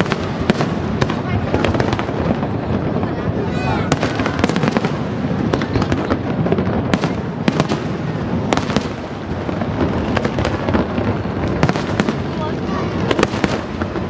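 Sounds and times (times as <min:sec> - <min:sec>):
firework bangs: 0:00.0 - 0:14.0.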